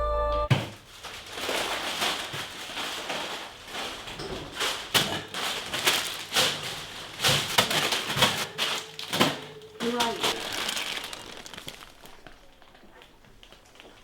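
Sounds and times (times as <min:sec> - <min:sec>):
packaging rustling and crinkling: 0:00.5 - 0:14.0.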